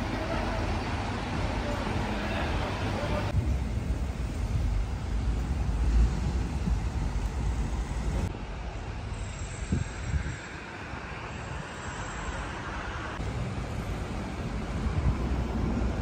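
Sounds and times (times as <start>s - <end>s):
passing car traffic: 0.0s - 16.0s.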